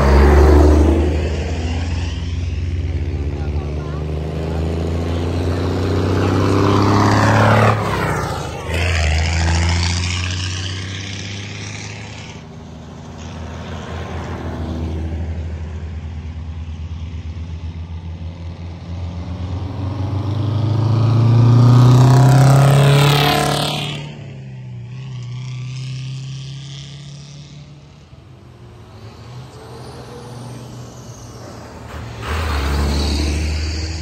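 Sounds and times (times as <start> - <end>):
tractor trucks driving past: 0.0 - 34.0.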